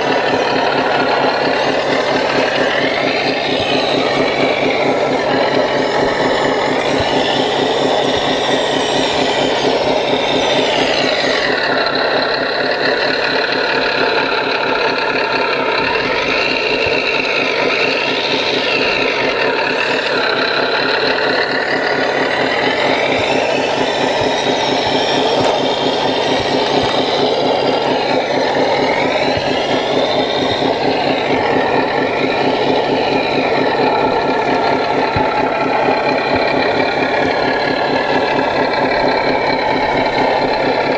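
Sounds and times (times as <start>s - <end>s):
diesel engine idle sound module: 0.0s - 40.9s
electric motor whine: 0.0s - 40.9s.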